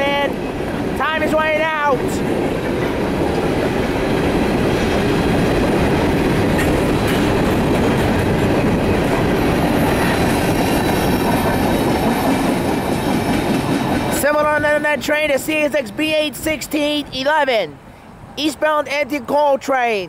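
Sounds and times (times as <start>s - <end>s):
freight train wheels rumbling on rail: 0.0s - 17.1s.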